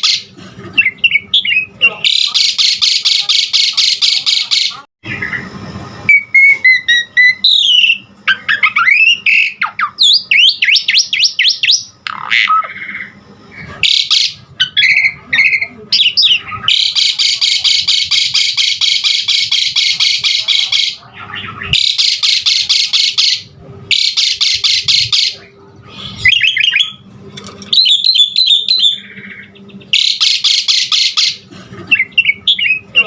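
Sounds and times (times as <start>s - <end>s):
starling singing: 0.0s - 5.5s, 6.1s - 27.1s, 27.7s - 33.0s.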